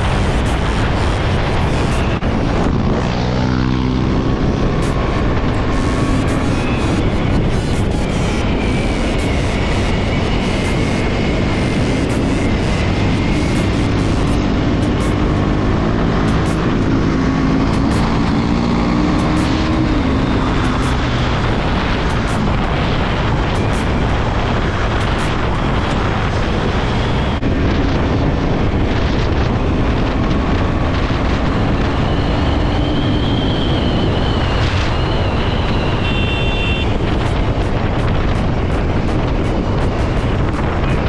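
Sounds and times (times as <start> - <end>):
motorcycle engine running: 0.0 - 34.4, 35.0 - 41.0
heavy wind rushing over microphone: 0.0 - 41.0.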